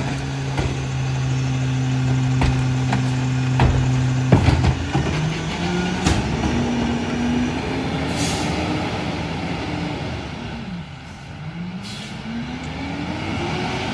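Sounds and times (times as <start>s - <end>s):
garbage truck diesel engine pulling away: 0.0s - 13.9s.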